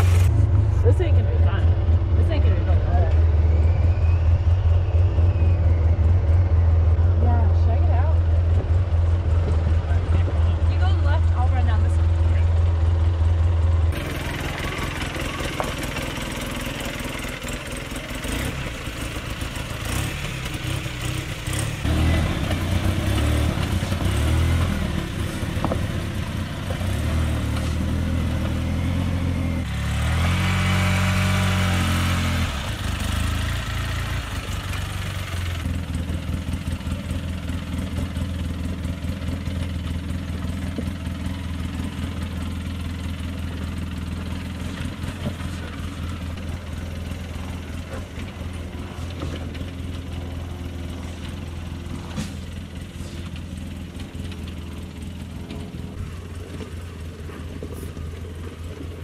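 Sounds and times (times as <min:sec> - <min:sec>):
vehicle engine running at low speed: 0:00.0 - 0:59.0.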